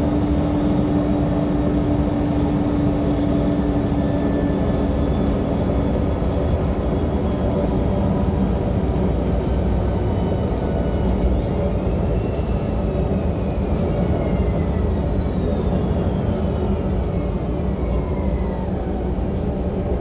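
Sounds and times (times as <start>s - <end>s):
bus rumbling: 0.0s - 20.0s.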